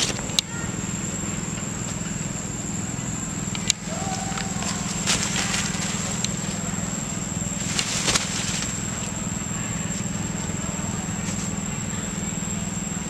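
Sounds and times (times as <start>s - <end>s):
low motor hum: 0.0s - 13.0s
thin high whine: 0.0s - 13.0s
dry leaves crackling: 1.7s - 12.8s.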